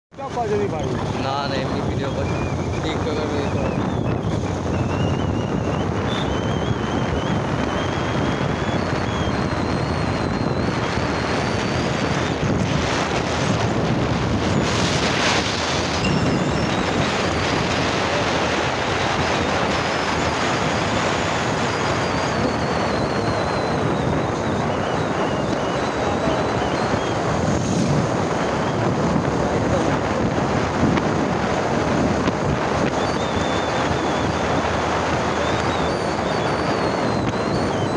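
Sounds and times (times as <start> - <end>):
wind rushing over microphone: 0.1 - 37.9.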